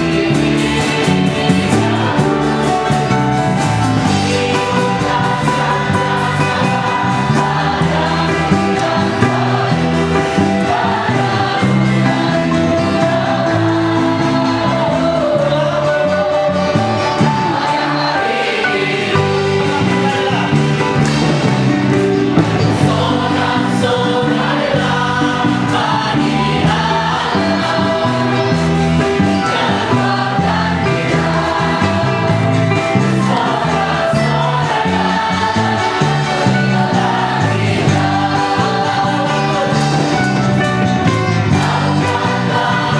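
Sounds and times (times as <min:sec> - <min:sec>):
band accompaniment: 0:00.0 - 0:42.9
group singing gospel song: 0:00.0 - 0:42.9.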